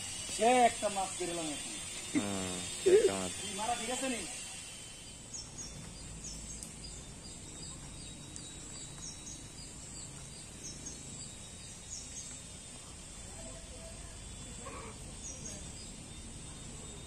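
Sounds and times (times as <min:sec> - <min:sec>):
insect drone: 0:00.0 - 0:17.0
small birds chirping: 0:00.1 - 0:17.0.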